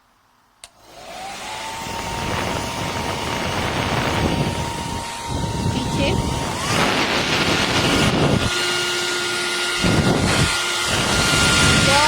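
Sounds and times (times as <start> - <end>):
hair dryer motor blowing: 0.6 - 12.0.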